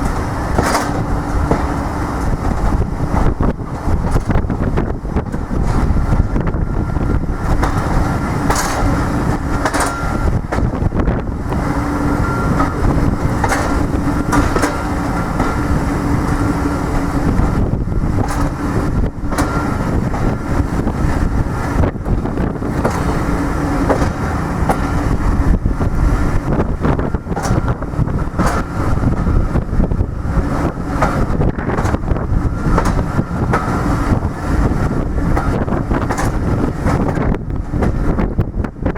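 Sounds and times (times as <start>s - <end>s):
sharp clicks and knocks: 0.0s - 6.3s, 7.4s - 25.6s, 26.5s - 29.4s, 30.6s - 38.2s
train rumbling: 0.0s - 38.9s.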